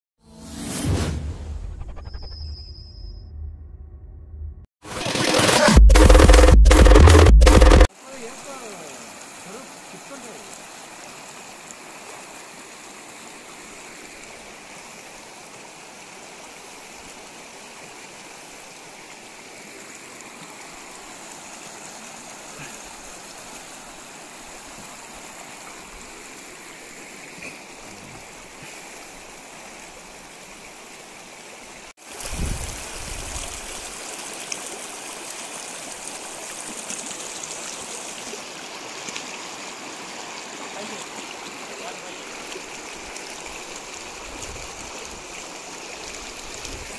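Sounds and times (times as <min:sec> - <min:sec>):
stream rushing over rocks: 0:07.9 - 0:46.9.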